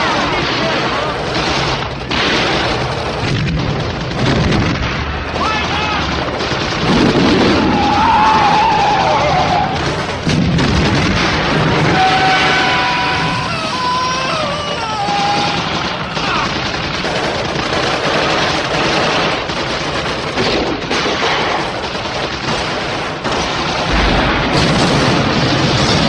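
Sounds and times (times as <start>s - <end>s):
rifle and machine-gun fire: 0.0s - 26.0s.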